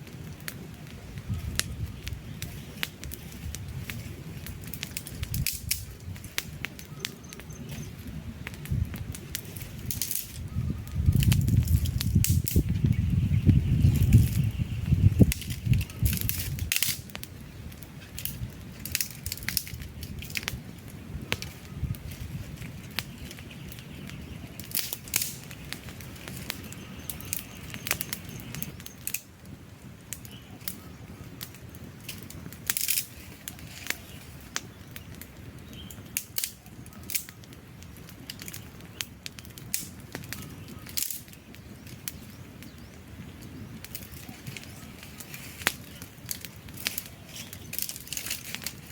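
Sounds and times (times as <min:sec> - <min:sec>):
campfire crackling: 0:00.0 - 0:48.9
low rush of flames: 0:00.0 - 0:48.9.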